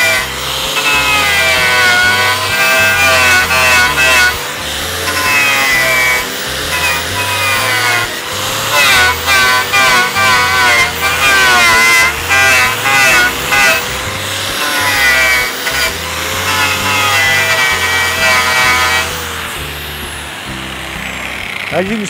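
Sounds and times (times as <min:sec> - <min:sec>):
angle grinder motor whine: 0:00.0 - 0:22.0
wire wheel rasping on wood: 0:00.0 - 0:22.0.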